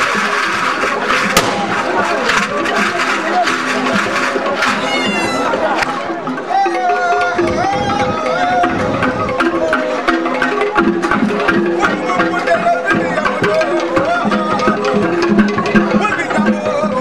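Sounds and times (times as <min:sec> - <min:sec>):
drums and percussion rhythm: 0:00.0 - 0:17.0
sliding melody: 0:00.0 - 0:17.0.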